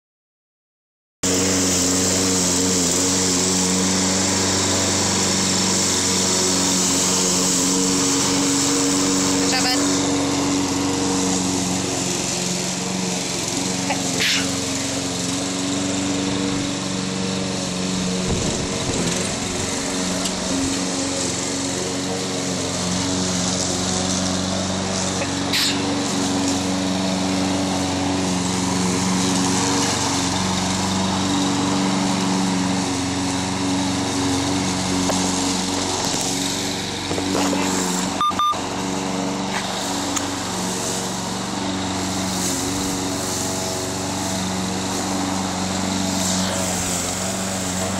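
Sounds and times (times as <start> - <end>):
lawn mower engine running: 1.2 - 47.9.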